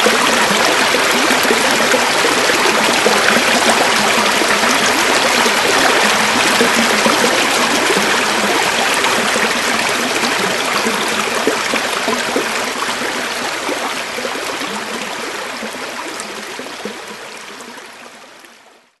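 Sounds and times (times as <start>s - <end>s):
river flowing over stones: 0.0s - 18.2s.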